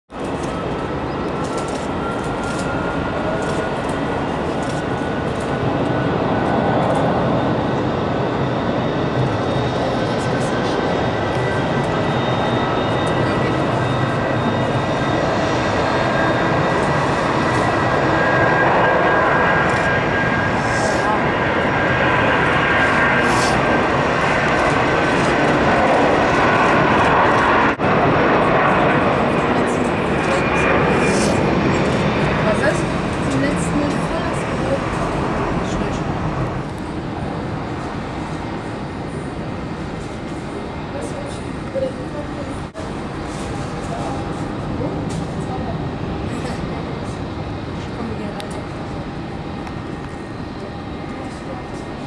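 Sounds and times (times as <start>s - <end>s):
jet engines roaring with whine: 0.1s - 52.0s.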